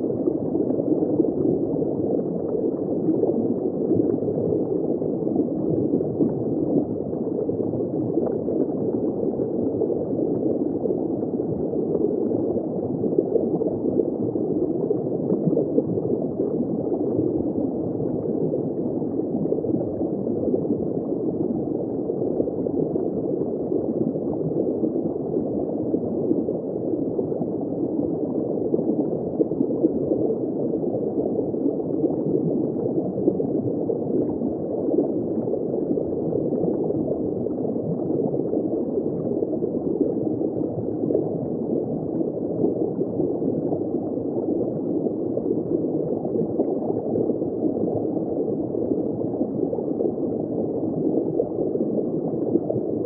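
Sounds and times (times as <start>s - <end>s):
underwater bubbling and gurgling: 0.0s - 53.0s.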